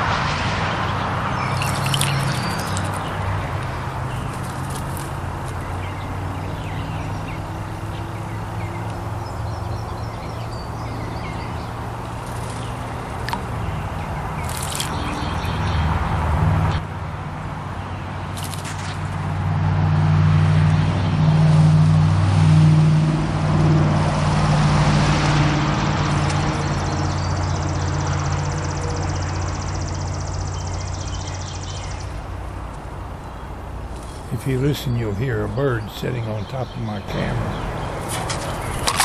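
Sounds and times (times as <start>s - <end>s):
vehicle passing by: 0.0s - 39.0s.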